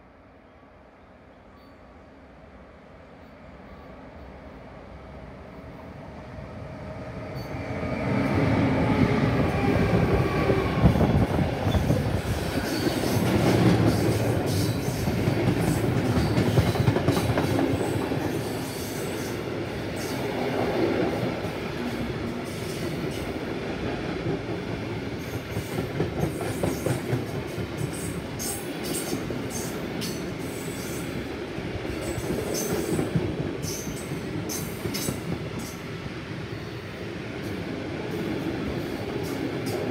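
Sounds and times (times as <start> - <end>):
electric locomotive whine: 0.0 - 39.9.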